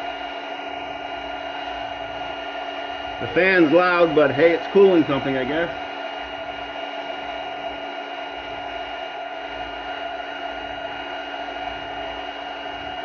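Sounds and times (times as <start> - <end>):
cooling fan running: 0.0 - 13.0
steady whine: 0.0 - 13.0.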